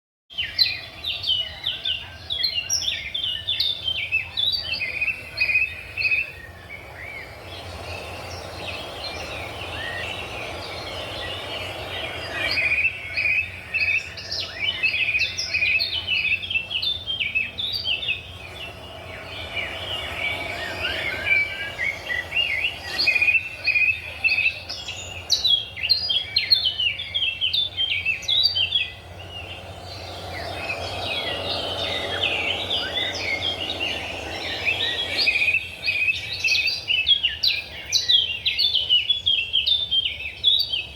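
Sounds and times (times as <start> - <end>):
small birds chirping: 0.3 - 40.9
steady low hum: 0.4 - 38.6.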